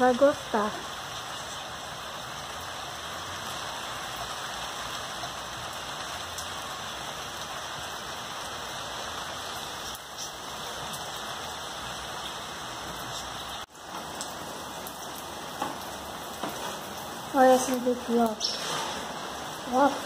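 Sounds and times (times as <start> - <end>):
rain falling on plants: 0.0 - 20.0.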